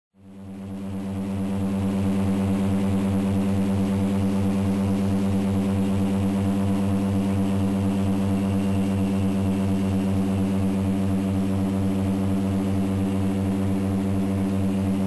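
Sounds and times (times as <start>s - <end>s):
turboprop engines droning: 0.3s - 15.0s.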